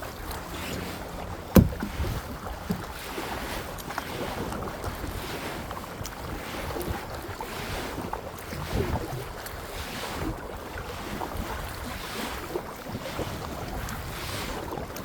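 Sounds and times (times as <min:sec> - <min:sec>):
water splashing around kayak: 0:00.0 - 0:15.0
wind rumbling on microphone: 0:00.0 - 0:15.0.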